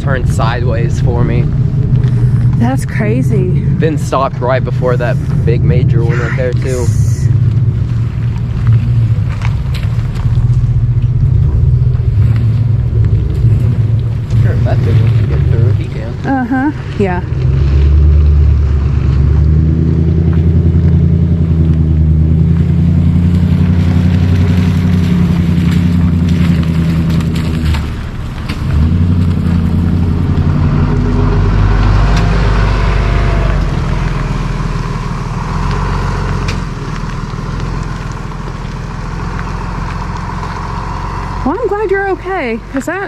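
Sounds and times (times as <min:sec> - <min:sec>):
large vehicle engine drone: 0:00.0 - 0:43.0
road and tyre hiss: 0:00.0 - 0:43.0.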